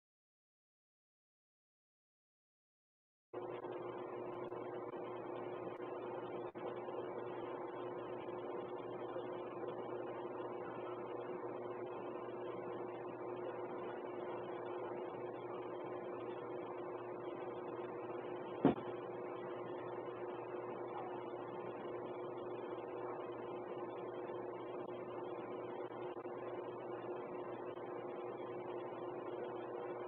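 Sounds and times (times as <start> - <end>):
two-tone electrical hum: 3.4 - 30.0.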